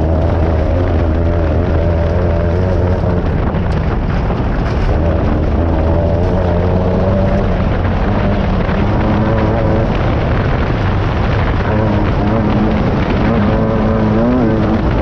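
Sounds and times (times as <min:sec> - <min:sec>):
buggy engine running hard: 0:00.0 - 0:15.0.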